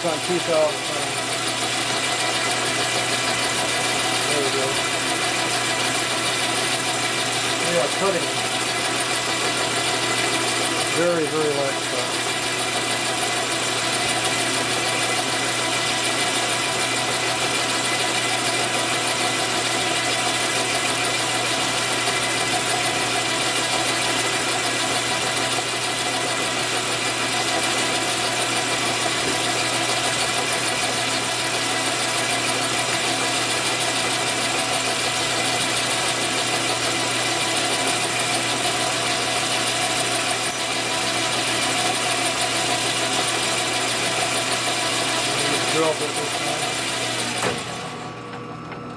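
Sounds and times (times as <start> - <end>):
metal lathe whirring: 0.0 - 48.9.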